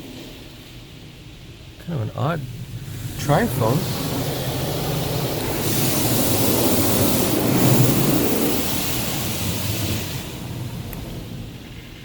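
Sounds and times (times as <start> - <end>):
car wash water spray hissing: 1.9 - 11.6.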